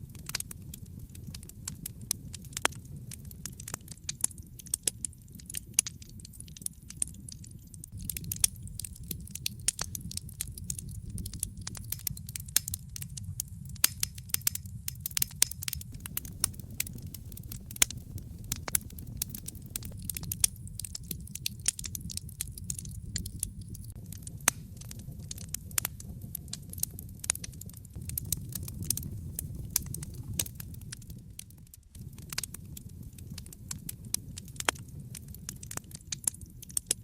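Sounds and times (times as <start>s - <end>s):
burning logs crackling and popping: 0.0s - 37.0s
fire flames rumbling: 0.0s - 37.0s.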